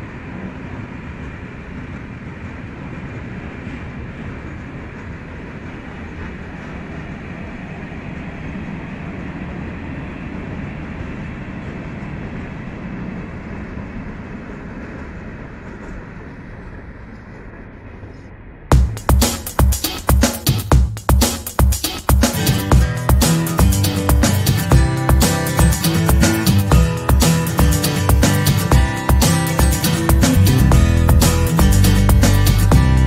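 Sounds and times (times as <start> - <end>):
freight train wheels on rail: 0.0 - 33.0.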